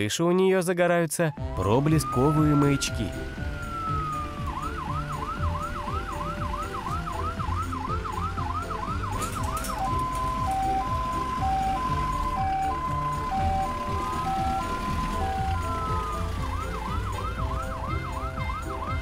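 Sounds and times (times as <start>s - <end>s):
cartoon ambulance siren: 1.4s - 19.0s.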